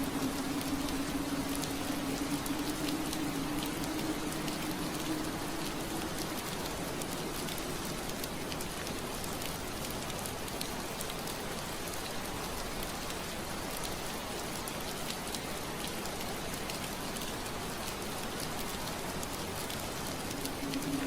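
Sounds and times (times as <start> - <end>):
rain on window glass: 0.0 - 21.0.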